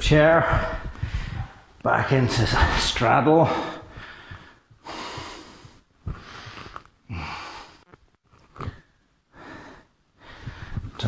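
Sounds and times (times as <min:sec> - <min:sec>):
man breathing heavily: 0:00.2 - 0:07.8, 0:08.6 - 0:11.0.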